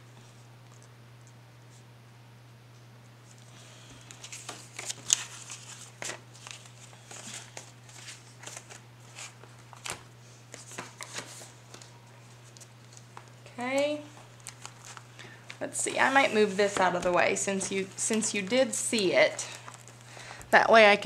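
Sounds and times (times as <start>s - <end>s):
banknotes rustling and crinkling: 3.3s - 20.5s.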